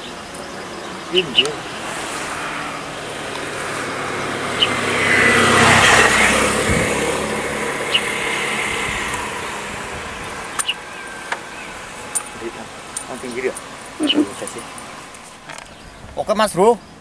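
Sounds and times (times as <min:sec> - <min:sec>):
vehicle driving past: 0:00.0 - 0:15.8.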